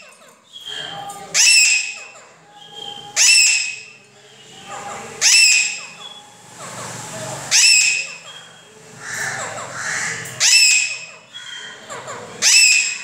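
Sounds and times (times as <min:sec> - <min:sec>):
parakeets calling: 0:00.0 - 0:13.0.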